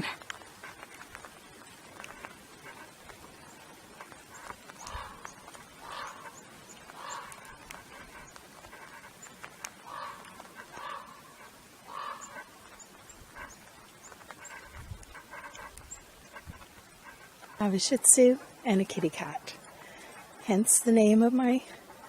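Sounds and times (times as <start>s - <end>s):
dog panting: 0.0s - 20.8s.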